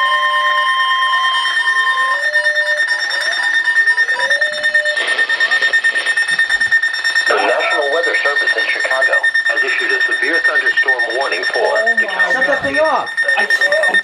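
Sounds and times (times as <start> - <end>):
lower steady alert tone: 0.0 - 14.0
steady high alert tone: 0.0 - 14.0.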